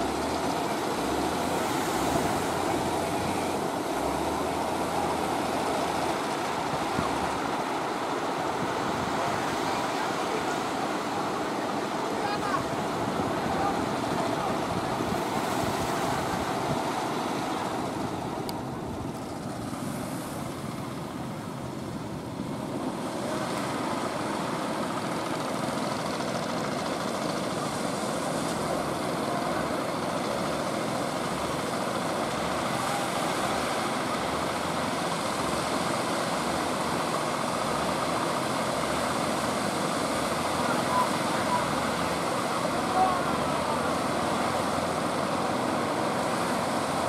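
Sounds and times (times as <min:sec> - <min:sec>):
surf rushing: 0:00.0 - 0:47.0
wind: 0:00.0 - 0:47.0.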